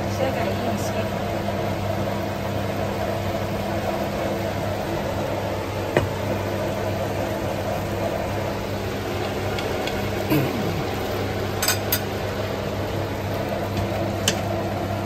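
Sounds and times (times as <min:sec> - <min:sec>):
induction hob hum and hiss: 0:00.0 - 0:15.0.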